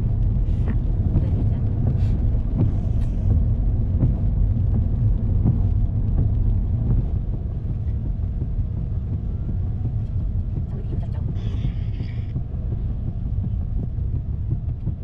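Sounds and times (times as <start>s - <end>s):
tyres and engine rumble: 0.0s - 15.0s.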